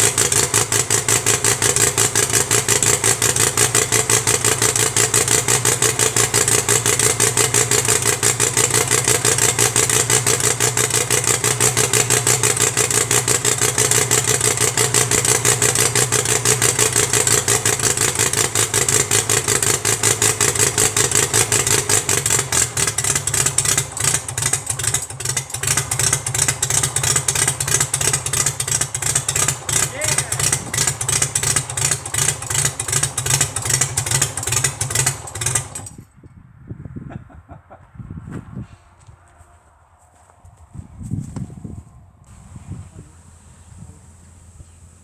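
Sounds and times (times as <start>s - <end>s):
radial engine running: 0.0s - 36.0s, 41.8s - 45.0s.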